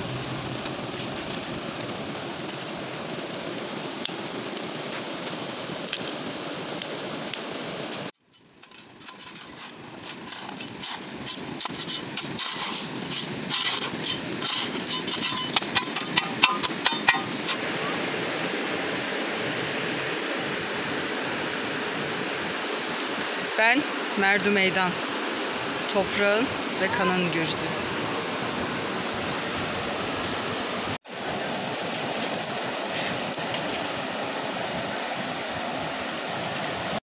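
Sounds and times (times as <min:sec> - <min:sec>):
flowing water rushing: 0:00.0 - 0:37.0
steady outdoor noise: 0:00.0 - 0:37.0.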